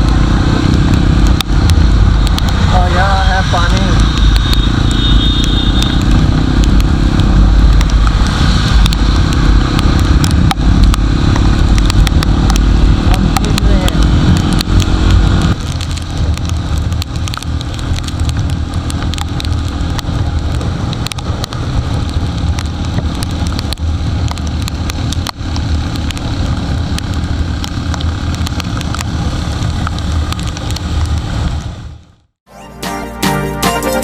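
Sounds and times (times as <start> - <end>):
raindrops clicking on microphone: 0.0 - 31.8
motorcycle engine drone: 0.0 - 32.4
wind and rain noise: 0.0 - 32.4.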